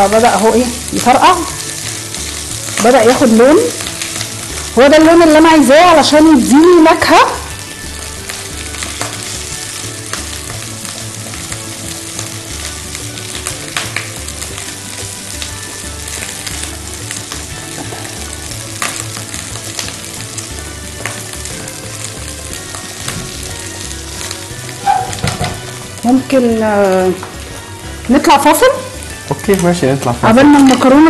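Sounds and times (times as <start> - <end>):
oil popping: 0.0 - 31.0
onions sizzling in oil: 0.0 - 31.0.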